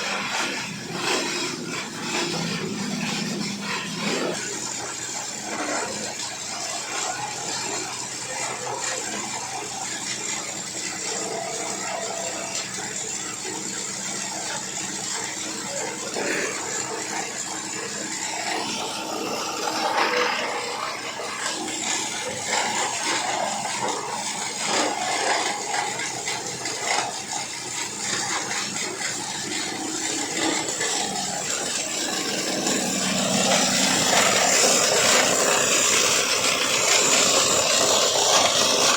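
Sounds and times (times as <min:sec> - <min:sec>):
grinder motor hum: 0:00.0 - 0:38.9
plastic clattering in grinder: 0:00.0 - 0:38.9.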